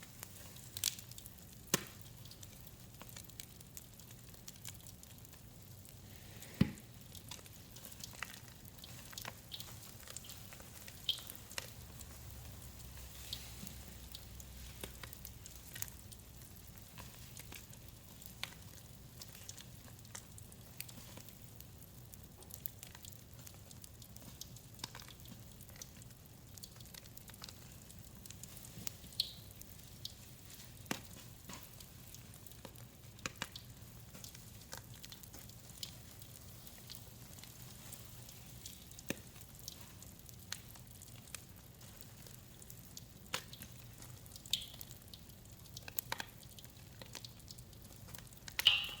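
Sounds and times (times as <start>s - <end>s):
crackling and snapping: 0.0s - 6.0s, 6.6s - 49.0s.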